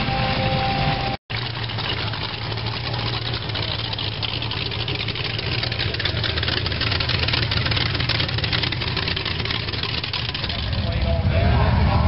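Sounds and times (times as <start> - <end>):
hot rod engine throbbing: 0.0 - 12.0.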